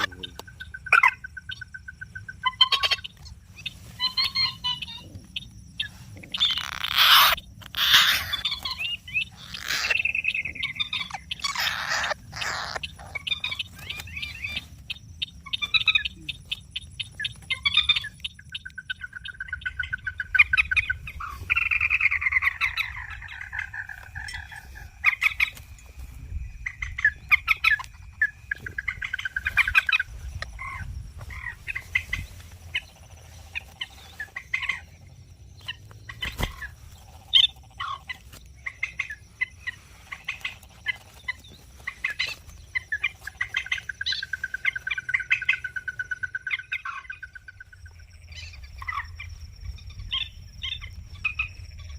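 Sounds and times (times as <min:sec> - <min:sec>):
moorhen croaks and clucks: 0:00.0 - 0:51.9.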